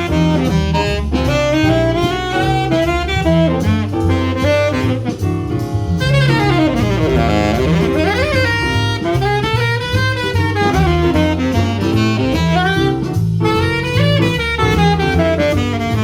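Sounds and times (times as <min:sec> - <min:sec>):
drums: 0:00.0 - 0:16.0
jazz saxophone soloing: 0:00.0 - 0:16.0
walking double bass: 0:00.0 - 0:16.0.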